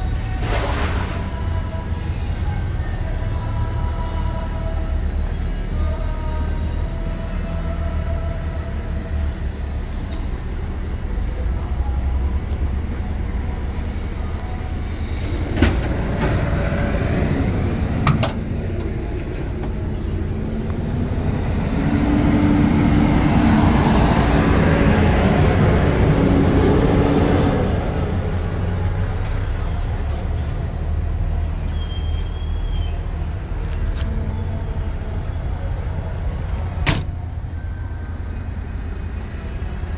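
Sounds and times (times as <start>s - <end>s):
diesel engine idling: 1.2s - 31.6s, 33.0s - 39.9s.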